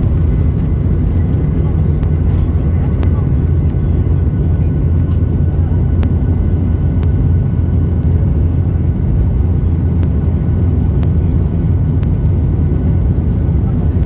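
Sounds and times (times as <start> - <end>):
jet engines rumbling in cabin: 0.0 - 14.0.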